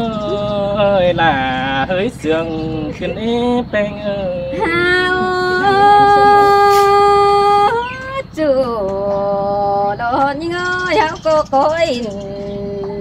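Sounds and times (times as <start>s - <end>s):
person singing unaccompanied: 0.0s - 13.0s.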